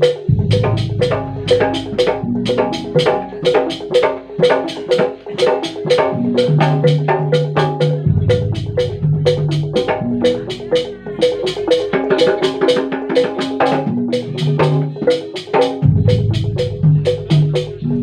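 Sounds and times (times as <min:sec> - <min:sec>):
steady bass line: 0:00.0 - 0:12.5, 0:13.5 - 0:18.0
mallet-struck melody: 0:00.0 - 0:18.0.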